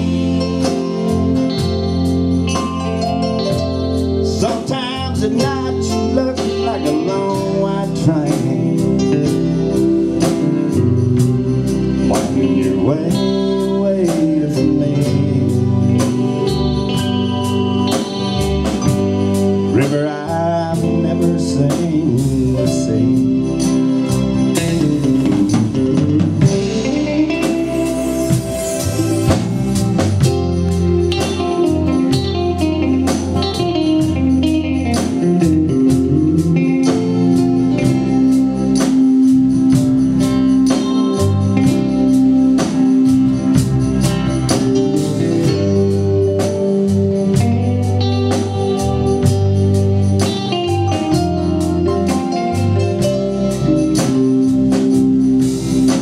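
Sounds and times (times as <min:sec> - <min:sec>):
electric guitar: 0:00.0 - 0:56.0
live band playing instrumental: 0:00.0 - 0:56.0.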